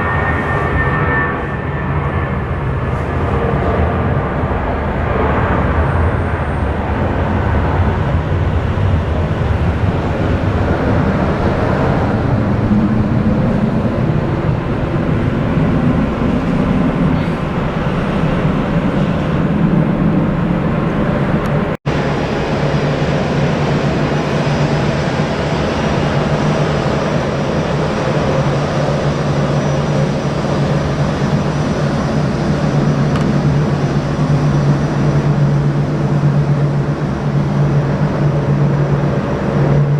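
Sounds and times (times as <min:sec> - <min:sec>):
aircraft engine rumble: 0:00.0 - 0:39.9.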